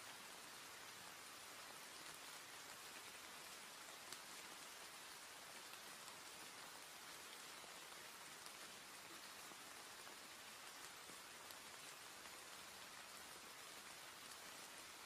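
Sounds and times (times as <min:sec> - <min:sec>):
soft rainfall: 0:00.0 - 0:15.0.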